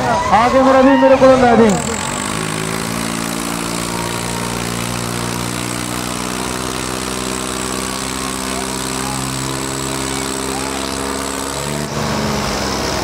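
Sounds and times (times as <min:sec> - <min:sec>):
tractor diesel engine running: 0:01.3 - 0:13.0.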